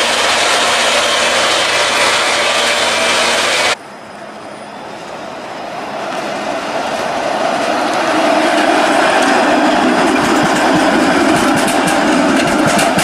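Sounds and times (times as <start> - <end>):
street noise: 0.0 - 13.0
streetcar rushing and humming: 0.0 - 13.0.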